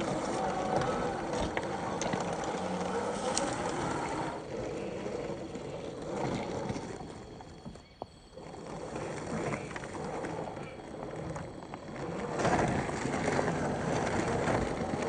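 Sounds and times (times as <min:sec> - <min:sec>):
electric motor and gears running: 0:00.0 - 0:15.0.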